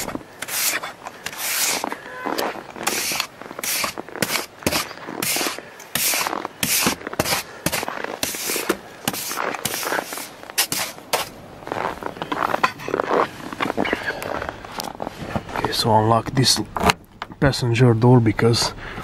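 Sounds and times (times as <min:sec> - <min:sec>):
snow brush scraping car: 0:00.0 - 0:15.8.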